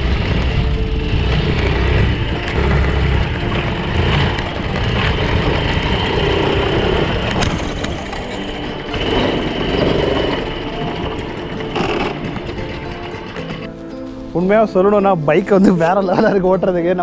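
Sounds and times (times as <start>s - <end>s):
quad bike engine running: 0.0s - 13.7s.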